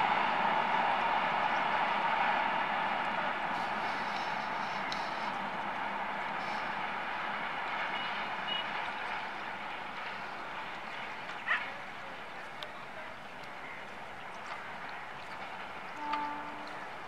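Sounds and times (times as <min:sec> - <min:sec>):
distant train rushing rail noise: 0:00.0 - 0:17.0.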